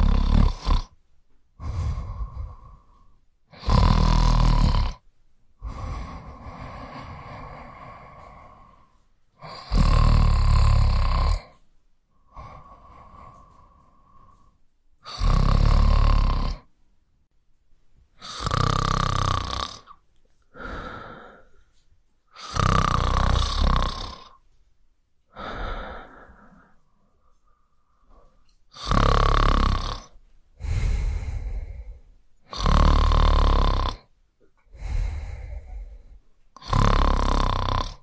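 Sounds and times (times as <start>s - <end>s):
person snoring: 0.0s - 1.0s, 1.6s - 5.0s, 5.6s - 11.6s, 12.2s - 16.7s, 18.2s - 21.6s, 22.3s - 24.4s, 25.3s - 38.0s
quiet breaths: 0.0s - 38.0s.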